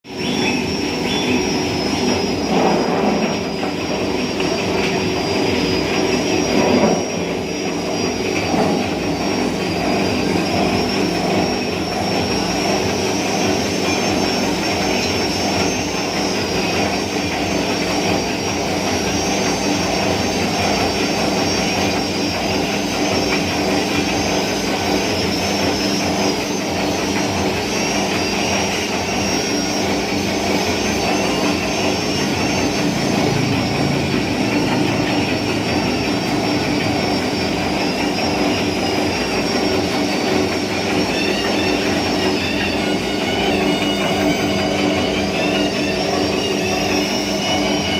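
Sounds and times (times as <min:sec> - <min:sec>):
slicing machine whirring: 0:00.1 - 0:47.9.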